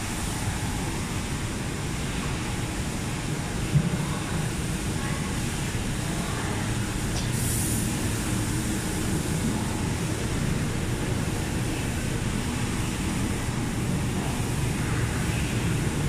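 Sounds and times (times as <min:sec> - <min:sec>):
factory floor drone: 0:00.0 - 0:16.0.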